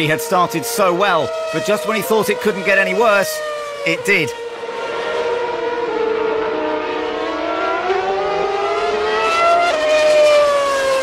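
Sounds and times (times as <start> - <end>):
racing car engines at high revs: 0.0 - 11.0
loud engine note dropping in pitch: 0.2 - 10.8.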